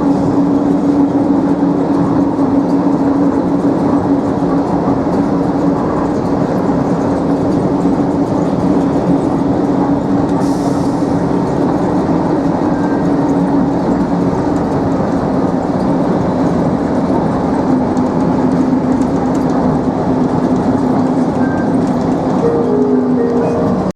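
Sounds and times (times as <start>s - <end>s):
train rolling rumble: 0.0s - 23.9s.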